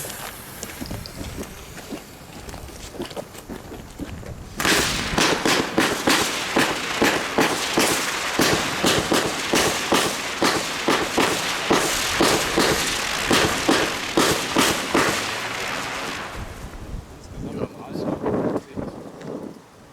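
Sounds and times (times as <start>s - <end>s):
firework shots popping and hissing: 0.0s - 19.5s.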